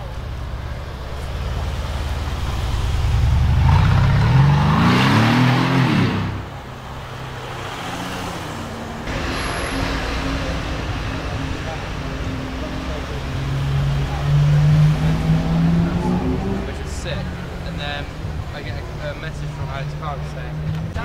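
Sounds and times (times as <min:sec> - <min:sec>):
car engine accelerating: 0:00.0 - 0:06.7, 0:09.1 - 0:21.0.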